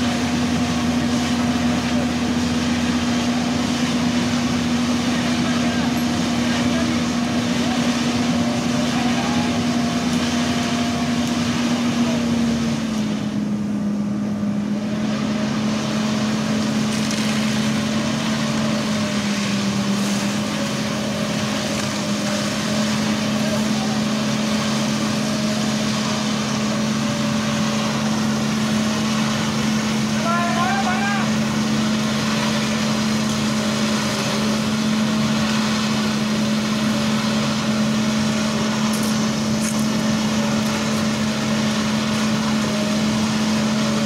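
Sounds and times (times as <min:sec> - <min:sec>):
wet concrete pouring down chute: 0:00.0 - 0:13.6, 0:14.5 - 0:44.0
diesel engine running: 0:00.0 - 0:44.0.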